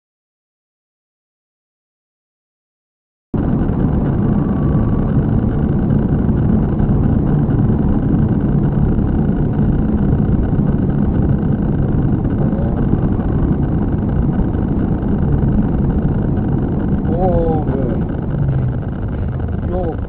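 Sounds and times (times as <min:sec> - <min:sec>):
car engine and road noise: 0:03.4 - 0:20.0.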